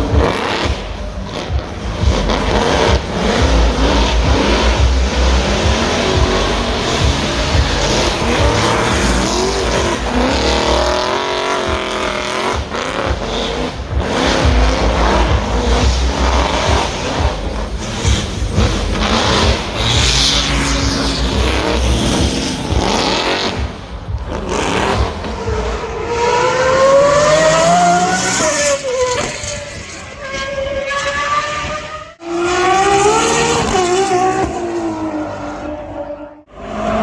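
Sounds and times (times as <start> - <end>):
rough crackling engine: 0.0 - 30.3
racing car engines at high revs: 0.0 - 37.0.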